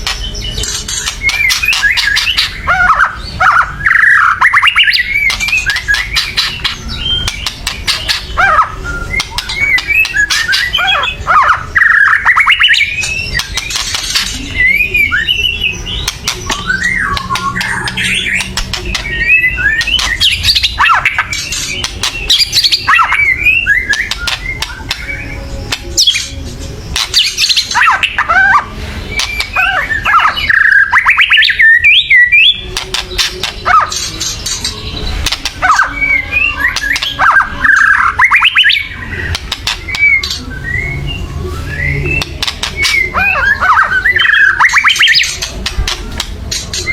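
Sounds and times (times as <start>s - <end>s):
bird singing whistled phrases: 0.4s - 26.4s, 27.0s - 32.6s, 35.6s - 45.5s.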